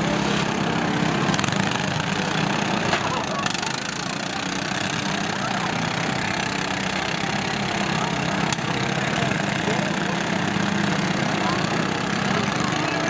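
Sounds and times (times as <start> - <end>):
lawn tractor engines running: 0.0 - 13.0.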